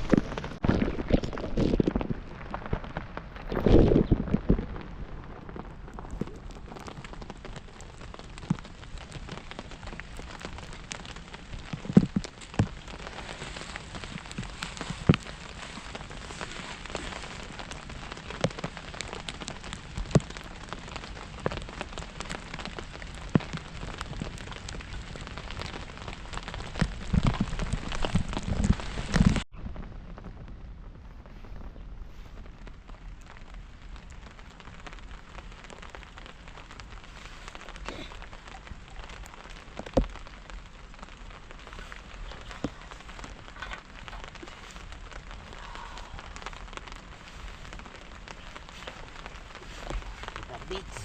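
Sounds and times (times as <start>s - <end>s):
rain drops ticking on surface: 0.0s - 51.0s.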